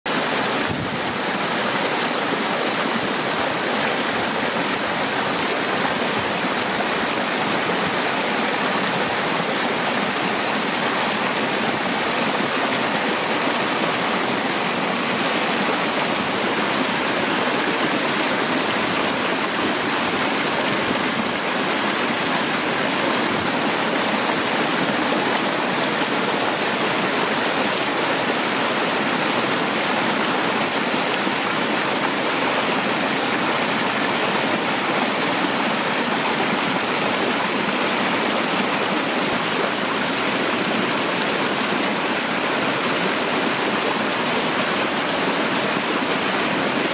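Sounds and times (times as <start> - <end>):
waterfall splashing over rocks: 0.1 - 46.9.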